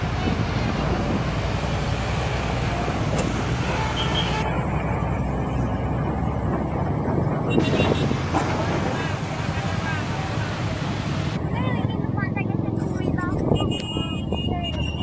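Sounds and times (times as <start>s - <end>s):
truck diesel engine running: 0.0s - 13.3s
road traffic: 0.0s - 15.0s.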